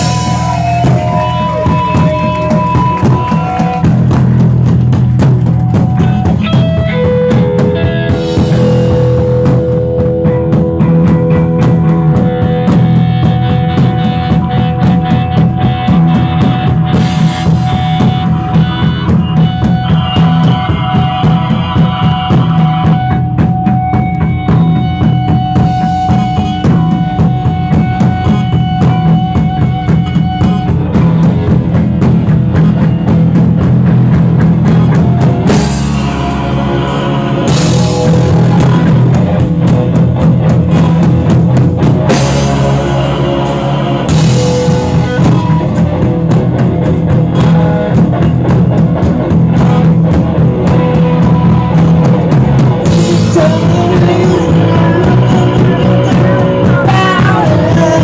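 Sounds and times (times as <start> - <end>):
drum kit beat: 0.0 - 58.0
electric guitar held notes: 0.0 - 58.0
rock band playing live: 0.0 - 58.0.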